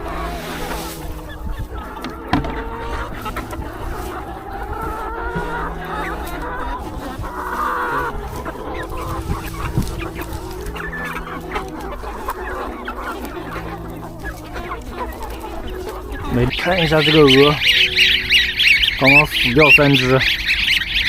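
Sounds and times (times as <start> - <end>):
chicken squawk: 0.0 - 21.0
chickens clucking: 0.0 - 21.0.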